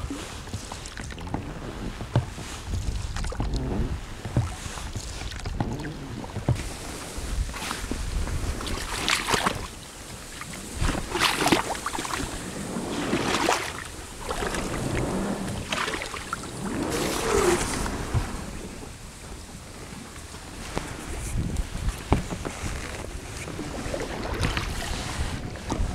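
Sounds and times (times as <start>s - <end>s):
water swishing splashes: 0.0s - 25.9s.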